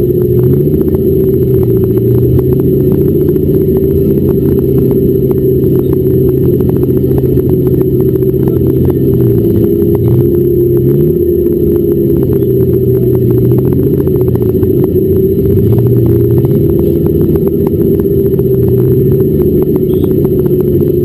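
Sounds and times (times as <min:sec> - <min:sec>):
car engine idling loudly: 0:00.0 - 0:21.0
fast irregular ticking rattle: 0:00.0 - 0:21.0.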